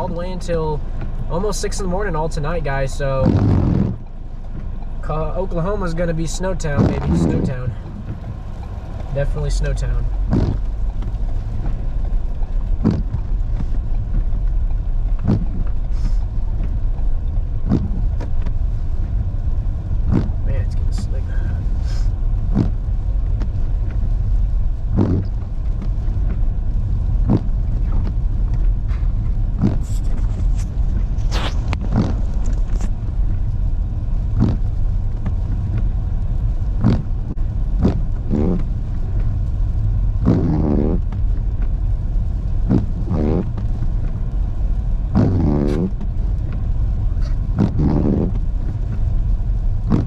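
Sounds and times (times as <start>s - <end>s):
engine and tyre rumble: 0.0s - 50.0s.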